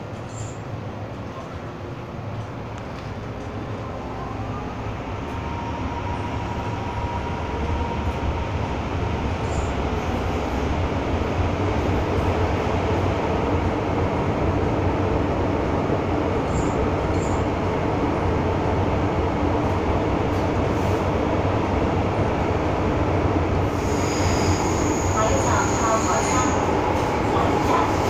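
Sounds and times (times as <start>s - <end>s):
metro train rumble and rail noise: 0.0s - 28.0s.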